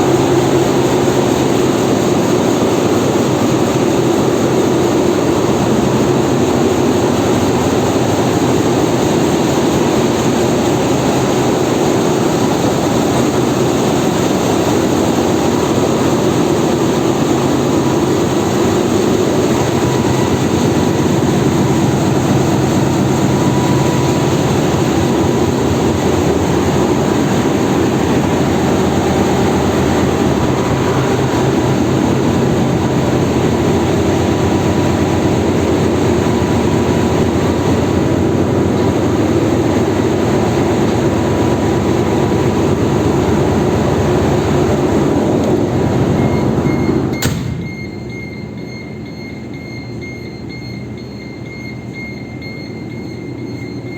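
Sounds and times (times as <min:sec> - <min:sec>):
engine-room machinery drone: 0:00.0 - 0:53.9.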